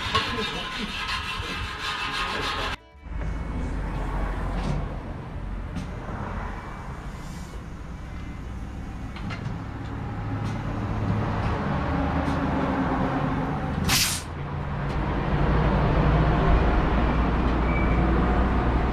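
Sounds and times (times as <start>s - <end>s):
engine humming: 2.9s - 18.9s.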